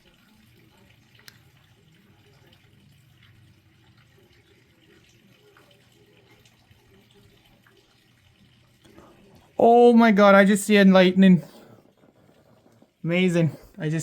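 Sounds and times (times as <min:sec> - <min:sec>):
rainwater dripping and trickling: 0:00.0 - 0:14.0.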